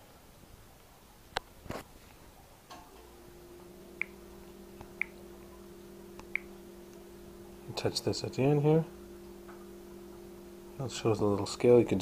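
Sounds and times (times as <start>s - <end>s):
steady low hum: 2.0s - 12.0s.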